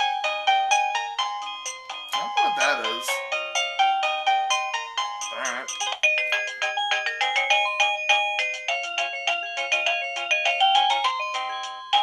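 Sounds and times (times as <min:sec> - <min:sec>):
electronic doorbell chime melody: 0:00.0 - 0:12.0.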